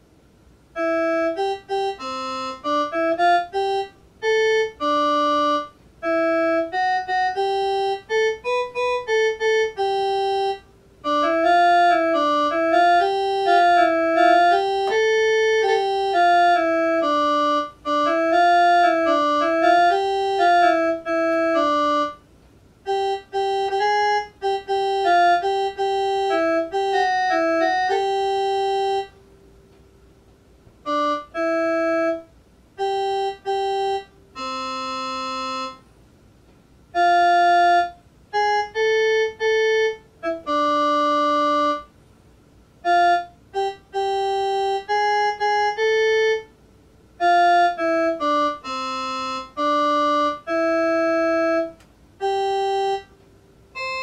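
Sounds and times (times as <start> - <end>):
electronic organ melody: 0.7 - 29.9, 30.8 - 36.0, 36.8 - 42.1, 42.7 - 54.0.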